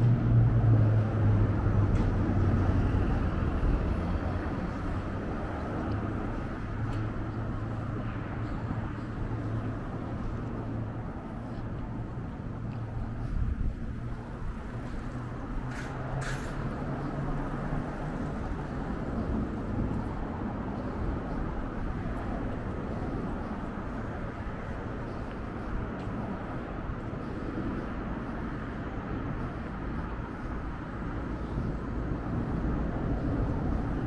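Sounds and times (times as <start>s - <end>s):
rumble of passing vehicles: 0.0s - 34.0s.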